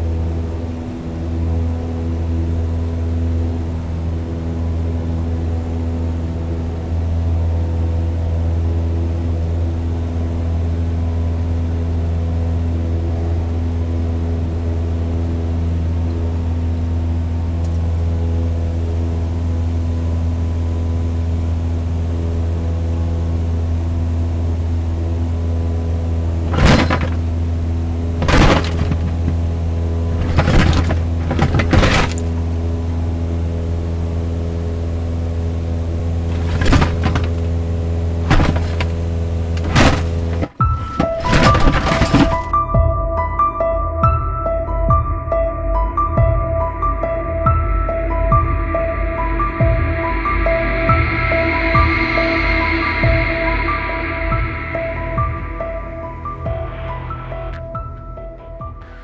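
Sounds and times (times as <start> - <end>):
drone propellers humming: 0.0 - 42.6, 46.9 - 59.0.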